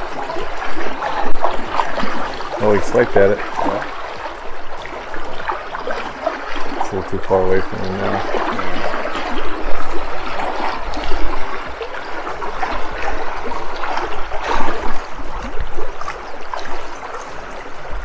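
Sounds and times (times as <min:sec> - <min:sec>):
creek water rushing over rocks: 0:00.0 - 0:18.0.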